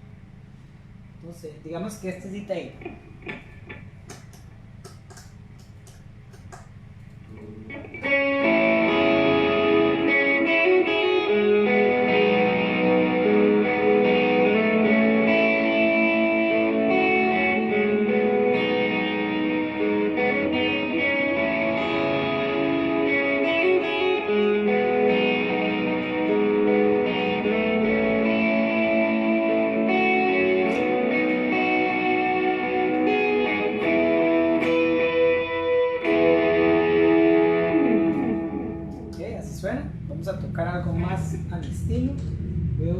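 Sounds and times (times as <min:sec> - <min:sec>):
electric guitar with delay and reverb: 0:01.0 - 0:42.9.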